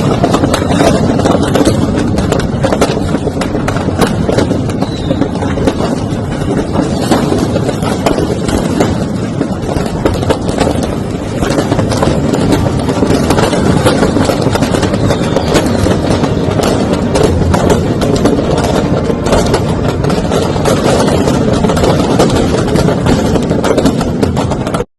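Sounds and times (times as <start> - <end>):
dense steady rumble of fire: 0.0 - 24.9
firecrackers popping and crackling: 0.0 - 24.9.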